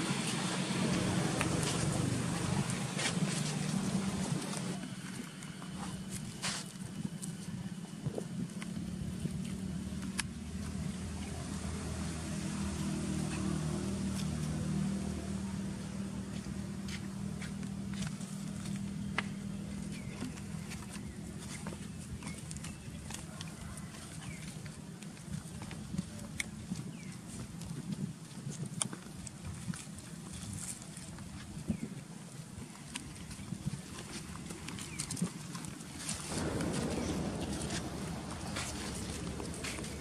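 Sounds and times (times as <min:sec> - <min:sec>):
low outdoor rumble: 0:00.0 - 0:27.7, 0:29.3 - 0:40.0
motor engine hum: 0:00.0 - 0:27.7, 0:32.8 - 0:40.0.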